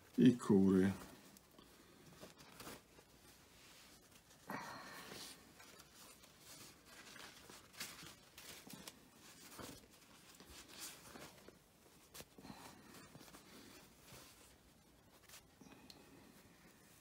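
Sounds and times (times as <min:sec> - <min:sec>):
paper napkins rustling: 0:00.0 - 0:17.0.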